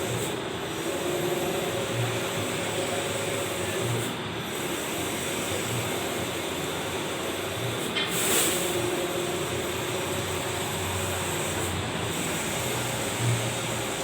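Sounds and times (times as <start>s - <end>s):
large printer running: 0.0s - 14.0s
printer hiss: 0.0s - 14.0s.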